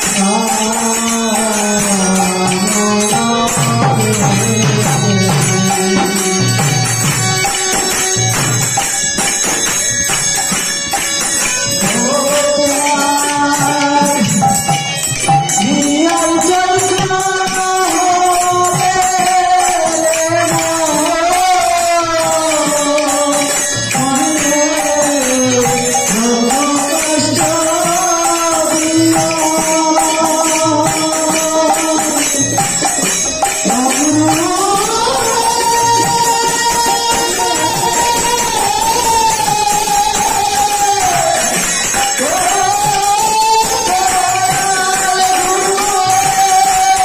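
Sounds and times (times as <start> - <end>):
man singing: 0.0 - 8.4, 11.2 - 47.0
hand drum rhythm: 0.0 - 47.0
jingling hand percussion: 0.0 - 47.0.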